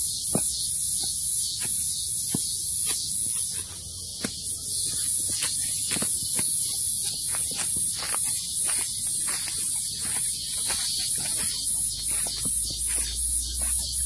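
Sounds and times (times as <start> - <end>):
high-pitched insect chorus: 0.0 - 14.0
footsteps on dry leaves: 1.4 - 14.0.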